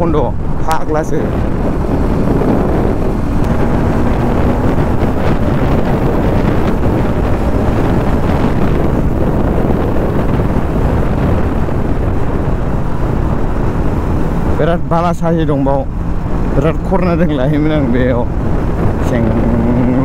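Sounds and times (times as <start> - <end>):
motorcycle engine: 0.0 - 14.9, 17.7 - 20.0
road noise: 0.0 - 20.0
wind rushing over microphone: 0.0 - 20.0.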